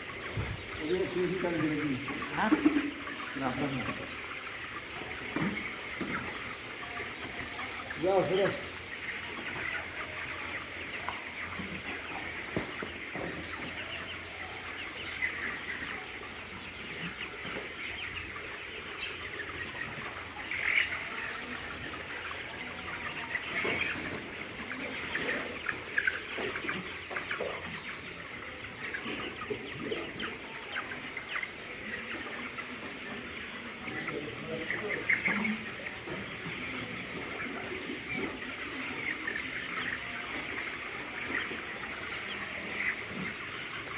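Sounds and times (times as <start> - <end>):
chickens peeping and clucking: 0.0 - 43.9.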